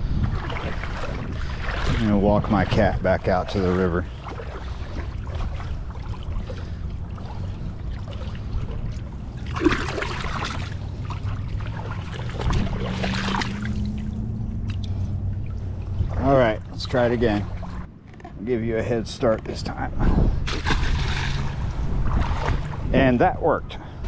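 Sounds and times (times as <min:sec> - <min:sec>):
steady low rumble: 0:00.0 - 0:24.0
river water splashing: 0:00.2 - 0:17.9, 0:20.4 - 0:22.9.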